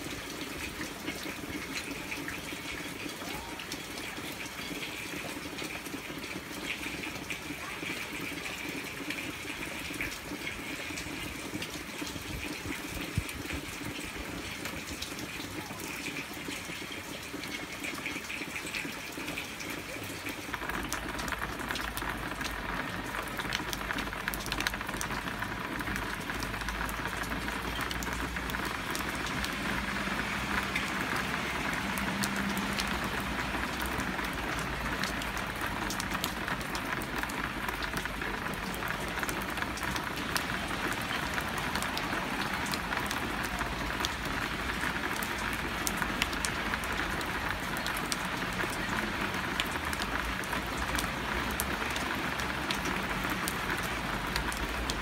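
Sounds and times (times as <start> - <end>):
hard rain falling: 0.0 - 55.0.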